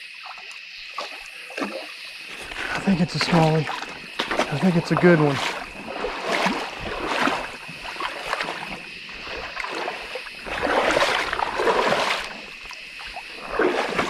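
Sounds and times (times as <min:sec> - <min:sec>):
water splashing in a creek: 0:00.0 - 0:14.0.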